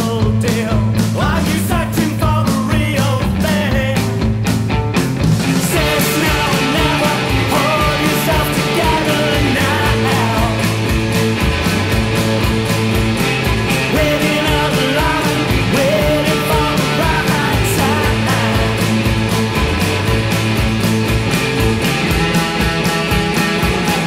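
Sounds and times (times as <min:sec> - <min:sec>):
garage rock song: 0:00.0 - 0:24.0
steady drumbeat: 0:00.0 - 0:24.0.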